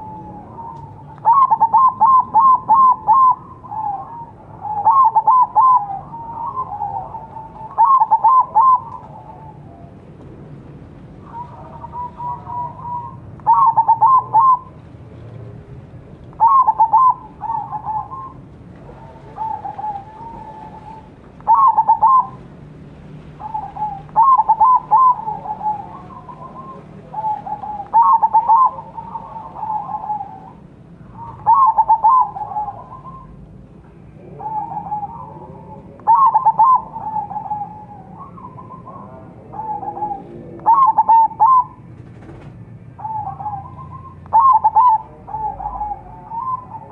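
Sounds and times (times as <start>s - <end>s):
dove cooing: 0.0s - 10.2s, 11.2s - 15.6s, 16.3s - 22.5s, 23.3s - 33.4s, 34.1s - 46.9s.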